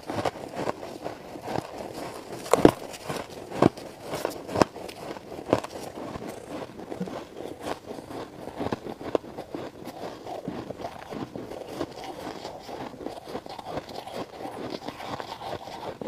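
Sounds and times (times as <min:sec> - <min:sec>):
chewing and crunching ice: 0:00.0 - 0:16.0.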